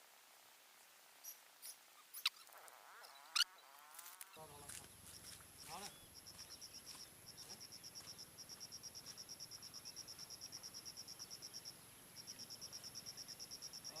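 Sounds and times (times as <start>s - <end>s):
faint high whine: 0.0s - 14.0s
cricket chirping: 1.2s - 14.0s.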